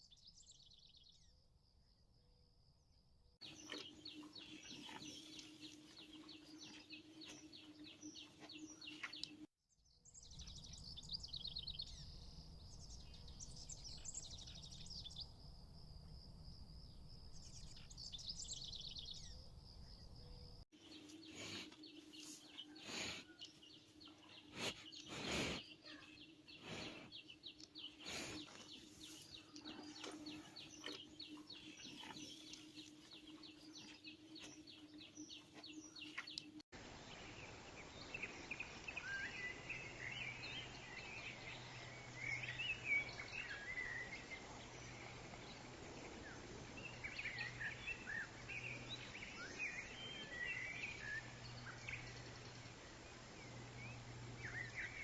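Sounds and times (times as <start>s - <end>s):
small birds chirping: 3.4s - 55.0s.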